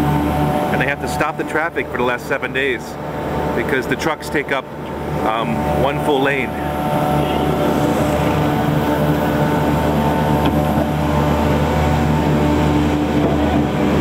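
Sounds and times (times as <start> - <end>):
truck engine and pump drone: 0.0 - 14.0.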